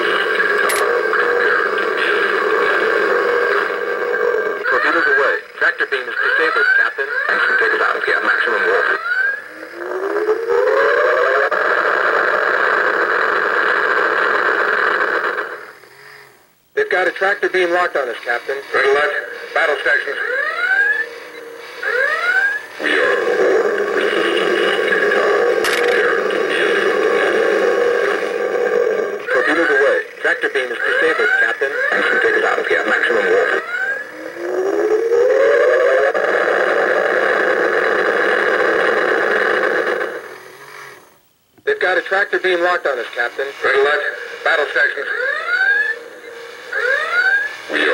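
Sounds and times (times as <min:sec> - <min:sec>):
steady engine hum effect: 0:00.0 - 0:11.6, 0:13.5 - 0:41.2, 0:41.8 - 0:47.9
electronic whine rising in pitch: 0:00.0 - 0:47.9.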